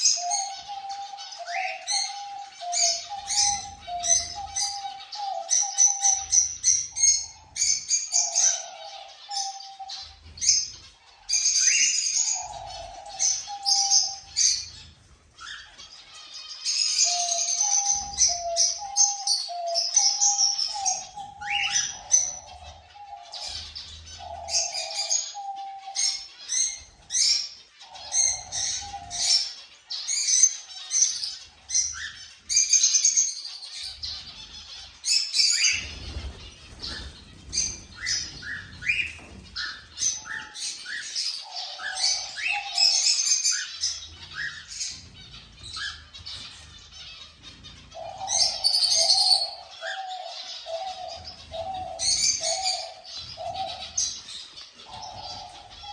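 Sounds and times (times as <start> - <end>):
low repeated cooing: 0.0 - 15.9, 16.7 - 30.2, 33.9 - 55.9
cockatiels chirping and whistling: 0.0 - 55.9.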